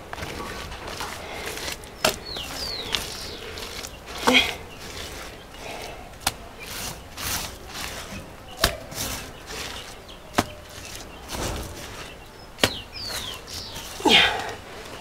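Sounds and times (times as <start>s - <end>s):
wet mud squelching: 0.0s - 15.0s.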